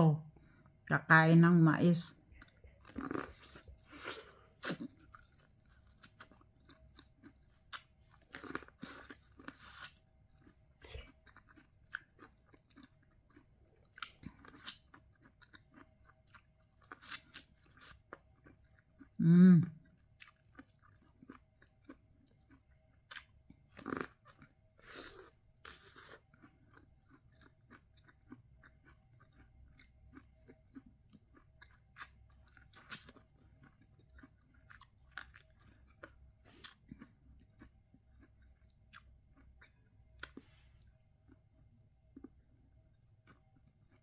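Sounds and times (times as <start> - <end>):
corn on the cob chewing: 2.4 - 19.2, 19.8 - 44.0.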